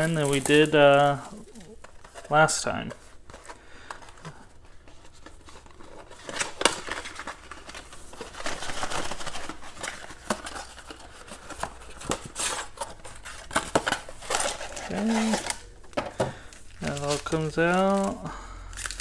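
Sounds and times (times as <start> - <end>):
plastic wrap crinkling: 0.0 - 19.0.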